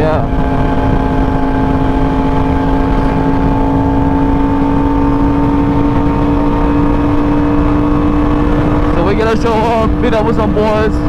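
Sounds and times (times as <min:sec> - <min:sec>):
motorcycle engine cruising: 0:00.0 - 0:11.0
wind on microphone: 0:00.0 - 0:11.0.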